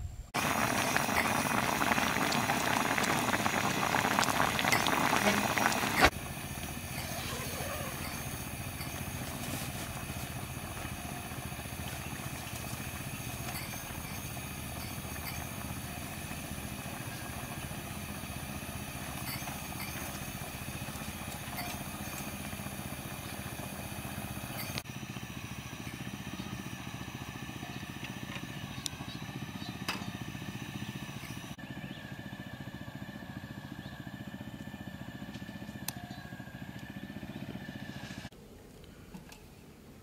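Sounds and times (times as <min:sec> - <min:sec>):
low motor-like rumble: 0:00.0 - 0:39.1.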